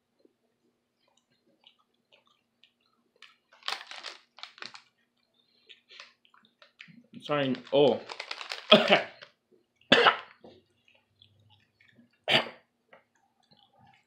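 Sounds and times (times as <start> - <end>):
chewing crunchy candy: 1.0 - 12.3, 13.0 - 14.0.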